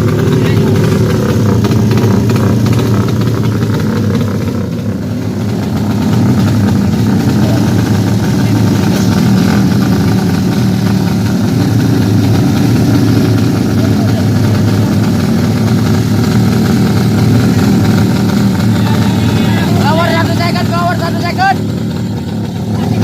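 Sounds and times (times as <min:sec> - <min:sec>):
motorcycle engines running loudly: 0:00.0 - 0:23.0.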